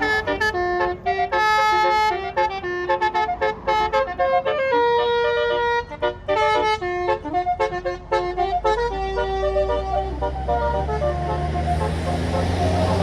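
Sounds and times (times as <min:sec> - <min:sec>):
multi-note bus horn tune: 0:00.0 - 0:13.0.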